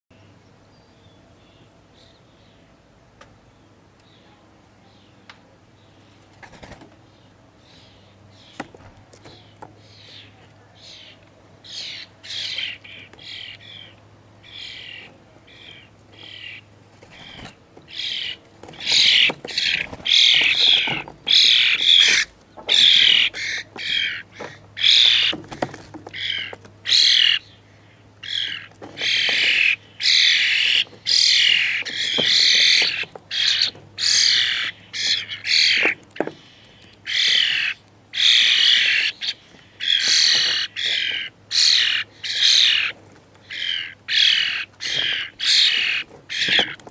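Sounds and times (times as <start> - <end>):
young starlings squawking: 9.3 - 46.9.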